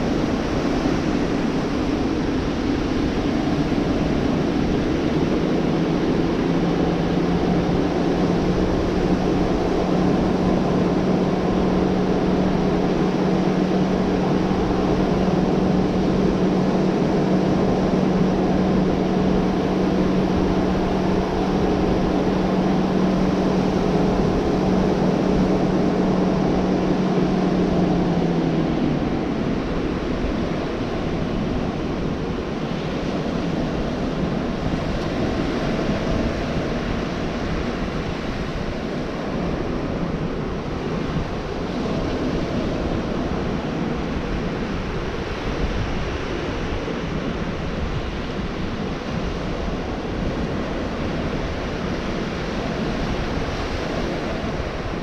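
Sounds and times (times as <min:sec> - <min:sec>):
steady engine hum: 0:00.0 - 0:55.0
surf washing onto beach: 0:00.0 - 0:55.0
wind: 0:00.0 - 0:55.0.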